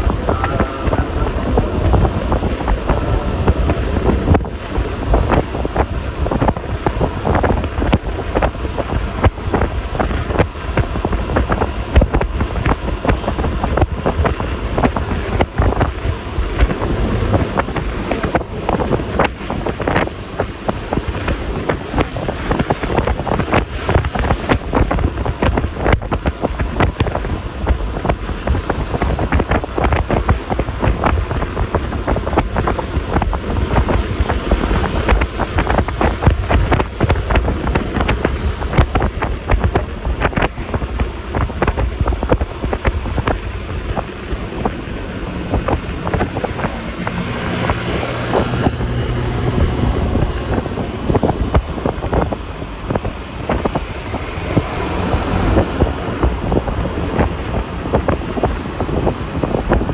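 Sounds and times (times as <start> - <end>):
scooter engine and road noise: 0.0 - 59.9
wind buffeting microphone: 0.0 - 59.9.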